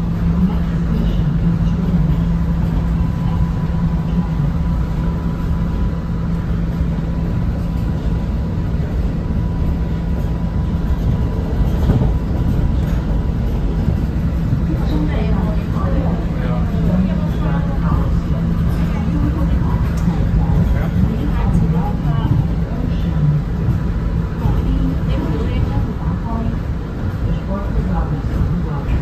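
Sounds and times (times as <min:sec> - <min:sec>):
faint steady whine: 0:00.0 - 0:29.0
train running low rumble: 0:00.0 - 0:29.0.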